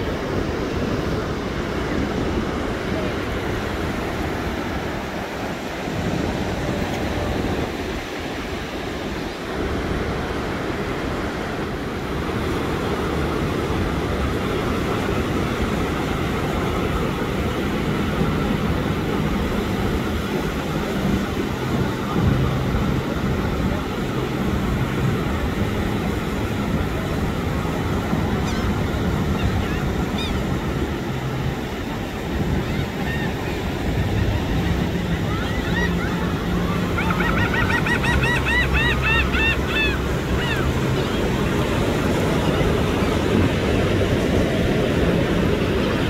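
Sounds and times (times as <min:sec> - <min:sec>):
ocean surf breaking: 0:00.0 - 0:46.0.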